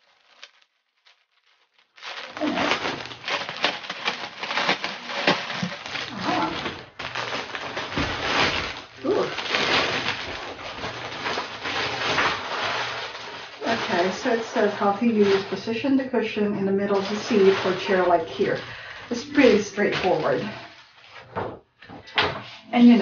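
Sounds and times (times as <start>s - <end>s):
plastic bag crinkling: 0.0s - 21.5s.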